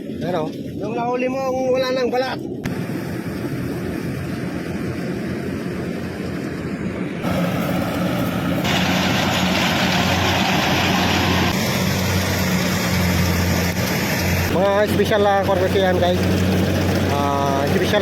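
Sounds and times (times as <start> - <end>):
engine humming: 2.4 - 18.0.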